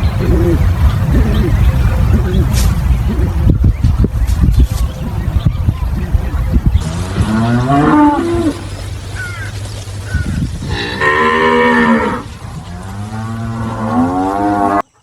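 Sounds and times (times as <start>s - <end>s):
cows mooing: 0.0s - 3.5s, 6.2s - 15.0s.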